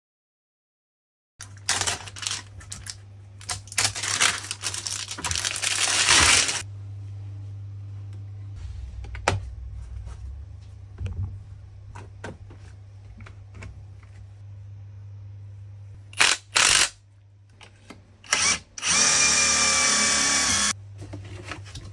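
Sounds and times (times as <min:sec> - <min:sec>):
steady low hum: 0:01.4 - 0:21.9.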